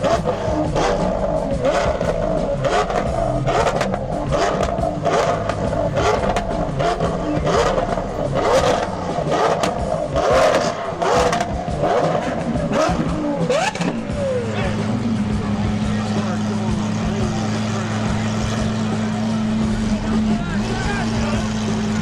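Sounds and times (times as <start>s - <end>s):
car engine revving: 0.0s - 22.0s
exhaust cracks: 0.0s - 22.0s.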